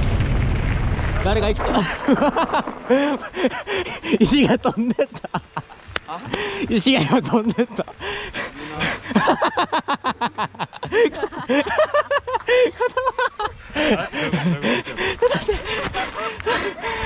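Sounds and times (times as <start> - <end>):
people laughing: 1.6 - 17.0.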